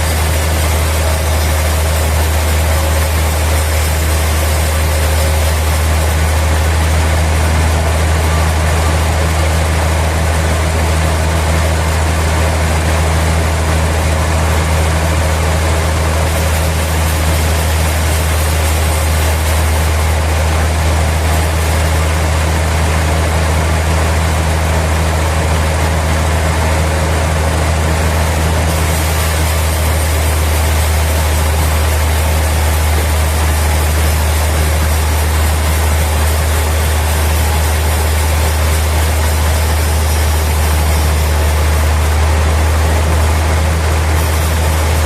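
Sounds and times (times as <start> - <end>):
low engine hum: 0.0 - 45.0
rushing machinery noise: 0.0 - 45.0.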